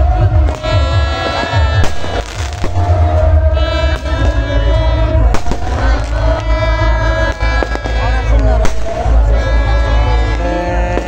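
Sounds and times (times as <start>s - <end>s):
fireworks bangs: 0.0s - 11.0s
loud music with heavy bass: 0.0s - 11.0s.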